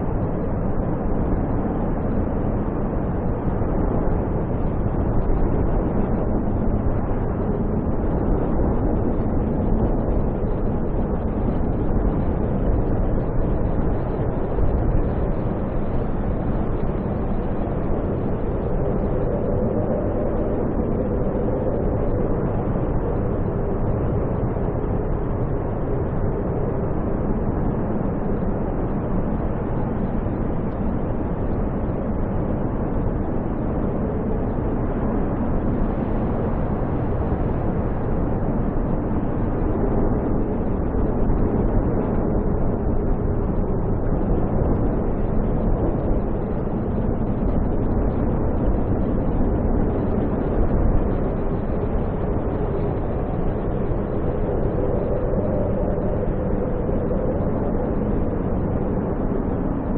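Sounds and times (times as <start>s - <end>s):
snowstorm wind roaring: 0.0s - 59.9s.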